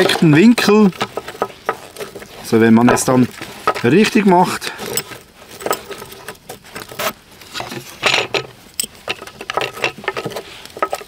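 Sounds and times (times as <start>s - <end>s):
light clicks and rattles: 0.0s - 11.0s
short scraping rustle: 0.0s - 11.0s.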